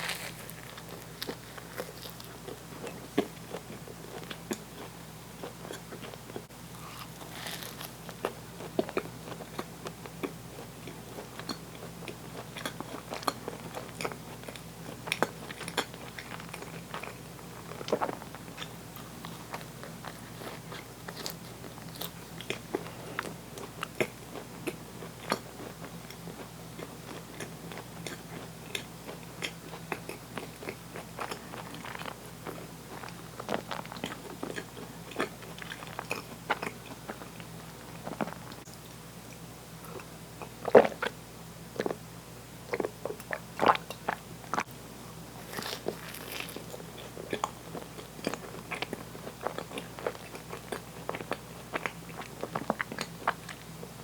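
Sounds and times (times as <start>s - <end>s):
person chewing crunchy food: 0.0s - 41.2s, 42.7s - 54.0s.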